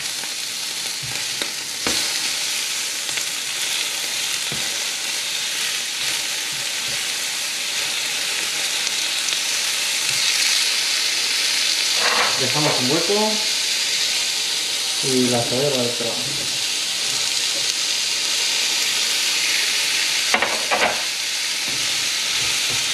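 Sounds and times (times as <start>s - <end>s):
steak sizzling in a frying pan: 0.0s - 22.9s.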